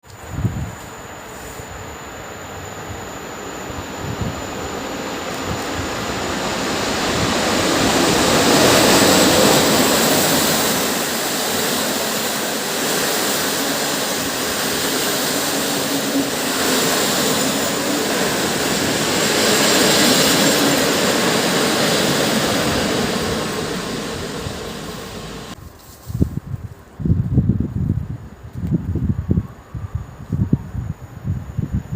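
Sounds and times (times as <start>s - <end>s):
train wheels rumbling on rail: 0.0s - 26.4s
outdoor ambience: 0.0s - 31.9s.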